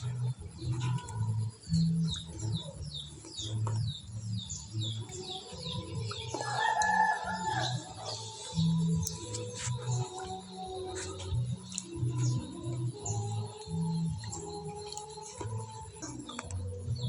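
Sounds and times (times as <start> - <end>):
birds chirping: 0.0 - 17.0
low repeated tones: 0.0 - 17.0
chickens calling: 0.6 - 17.0.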